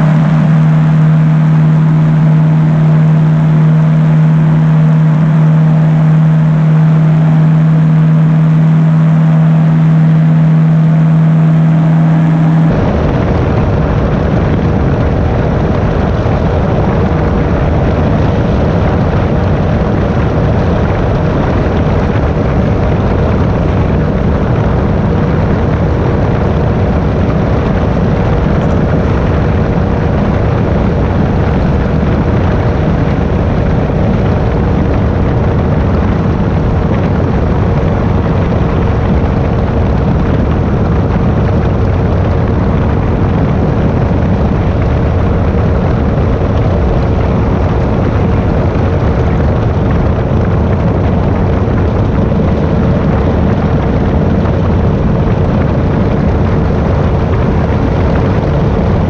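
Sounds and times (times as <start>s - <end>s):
powered parachute engine drone: 0.0s - 59.0s.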